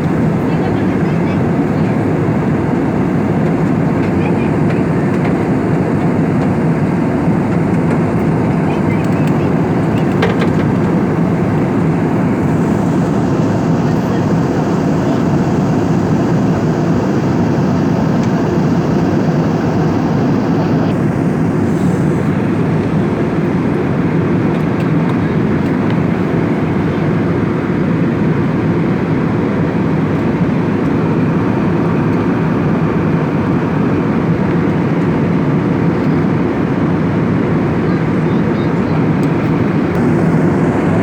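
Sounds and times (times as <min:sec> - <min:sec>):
airliner cabin noise: 0:00.0 - 0:41.0.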